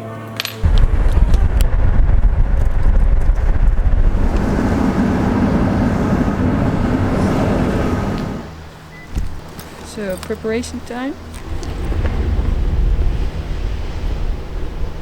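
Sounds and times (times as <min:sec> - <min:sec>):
wind buffeting microphone: 0:00.6 - 0:15.0.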